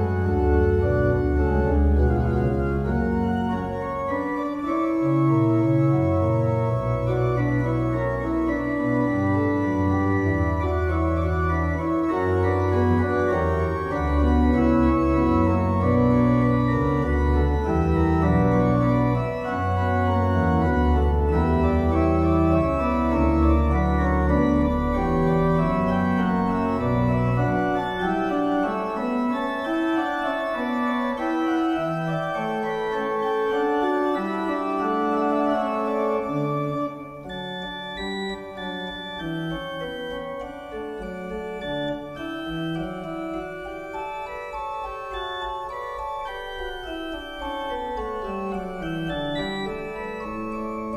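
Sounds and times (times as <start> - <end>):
pipe organ playing: 0.0 - 50.9.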